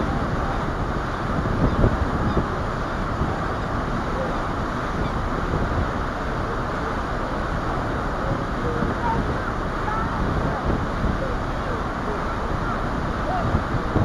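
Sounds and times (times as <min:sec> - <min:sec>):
ferry engine rumble: 0:00.0 - 0:14.0
water washing past hull: 0:00.0 - 0:14.0
wind on microphone: 0:00.0 - 0:14.0.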